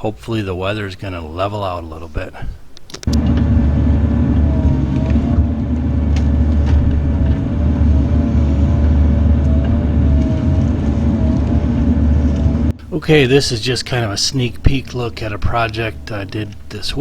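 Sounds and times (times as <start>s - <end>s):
excavator diesel engine running: 3.1s - 17.0s.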